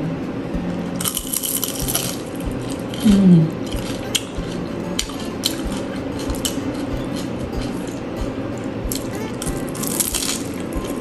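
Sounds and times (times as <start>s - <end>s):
low falling hum: 0.0s - 11.0s
utensils clicking on plate: 1.0s - 8.0s, 8.9s - 11.0s.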